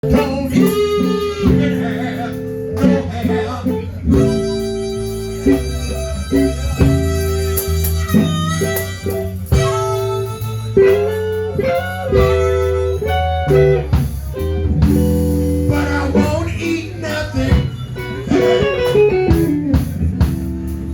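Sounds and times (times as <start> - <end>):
bass line: 0.0 - 20.9
electric guitar: 0.0 - 20.9.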